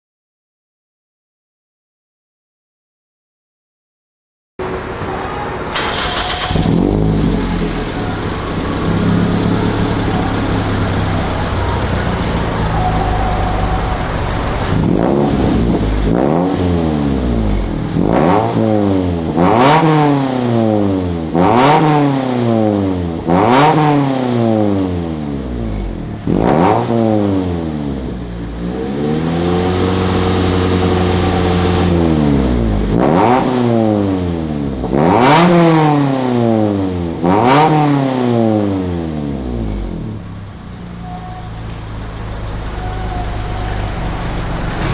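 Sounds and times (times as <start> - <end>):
car engine revving: 5.6 - 44.9.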